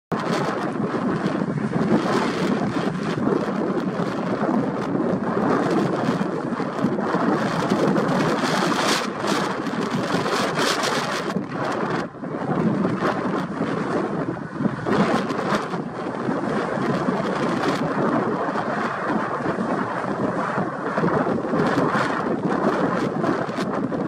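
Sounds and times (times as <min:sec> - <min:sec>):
wind buffeting microphone: 0:00.1 - 0:24.0.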